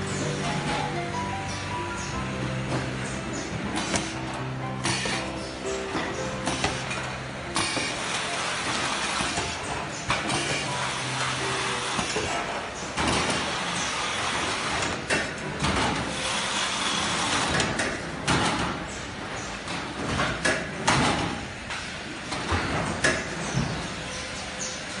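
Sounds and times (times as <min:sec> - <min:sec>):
packing machinery running: 0:00.0 - 0:25.0
cartons clunking on rollers: 0:00.1 - 0:16.2, 0:17.0 - 0:23.9.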